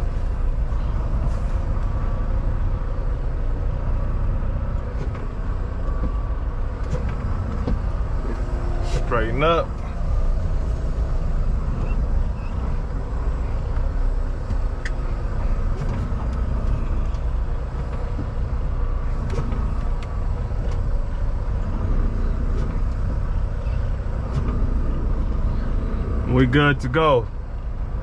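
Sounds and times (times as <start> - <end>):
truck diesel engine rumbling: 0.0 - 28.0.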